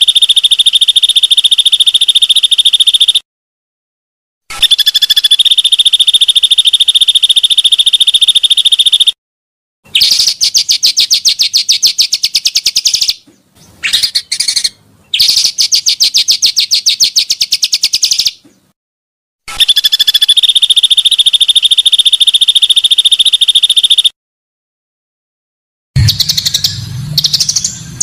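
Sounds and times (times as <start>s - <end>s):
bird trilling: 0.0s - 3.2s, 4.5s - 9.2s, 9.9s - 18.5s, 19.5s - 24.1s, 26.0s - 28.0s.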